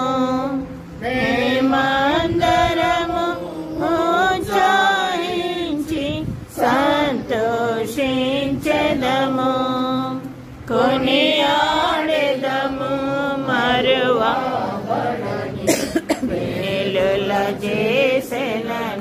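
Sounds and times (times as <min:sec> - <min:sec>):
group singing a slow hymn: 0:00.0 - 0:19.0.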